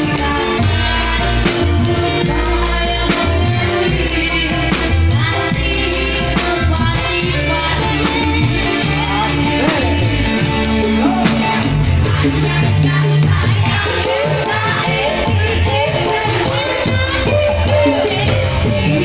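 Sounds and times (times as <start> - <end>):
bass line: 0.0 - 19.0
person singing: 0.0 - 19.0
steady drum beat: 0.0 - 19.0.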